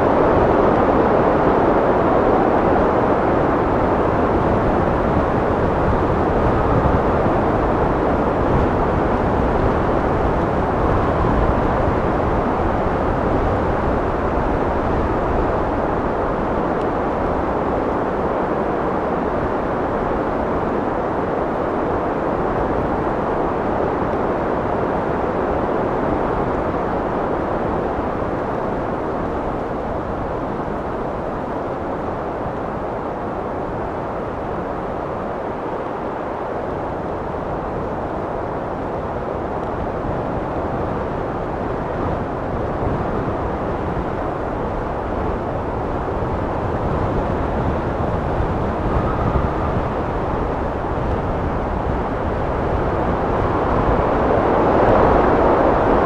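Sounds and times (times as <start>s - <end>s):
wind blowing: 0.0s - 56.0s.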